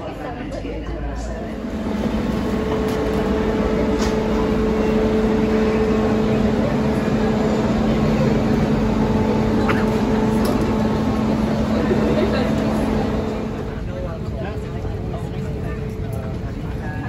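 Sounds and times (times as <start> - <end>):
mechanical hum with high tone: 0.0 - 17.0.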